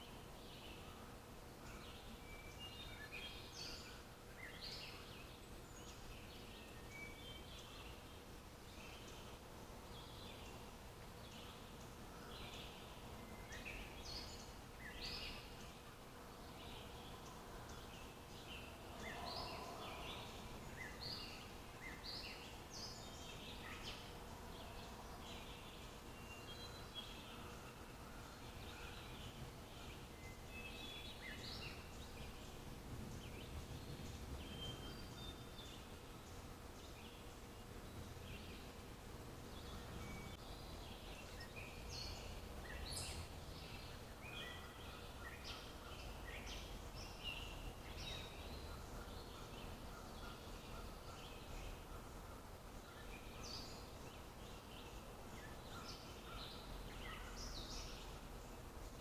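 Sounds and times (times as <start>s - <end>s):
small birds chirping and singing: 0.0s - 59.0s.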